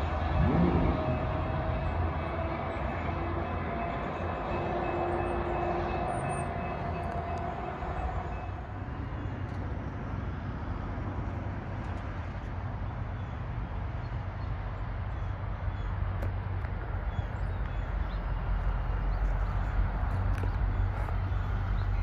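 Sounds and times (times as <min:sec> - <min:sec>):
diesel train rumble: 0:00.0 - 0:22.0.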